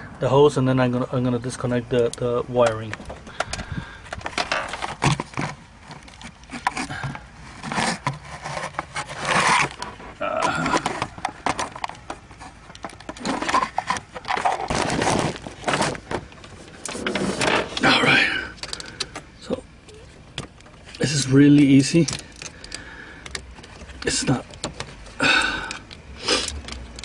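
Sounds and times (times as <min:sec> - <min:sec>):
plastic parts scraping and clicking: 0:01.9 - 0:27.0.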